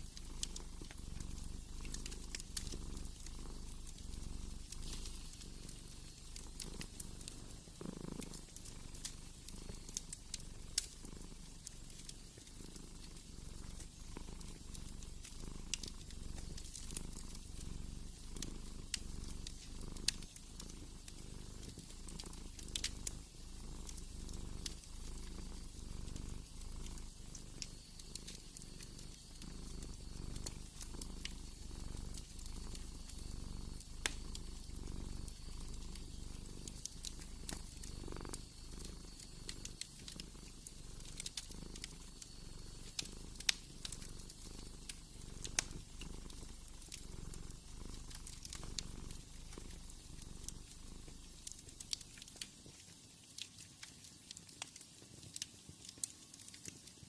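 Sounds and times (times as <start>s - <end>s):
cat purring: 0.0s - 57.0s
wood fire crackling: 0.0s - 57.0s.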